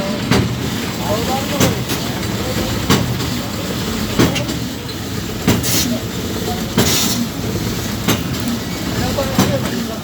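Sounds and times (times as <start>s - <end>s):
suction pump rumbling: 0.0s - 10.0s.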